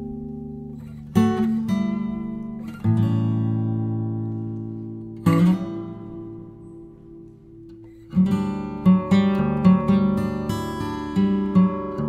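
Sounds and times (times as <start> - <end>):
acoustic guitar chords strummed: 0.0 - 12.0.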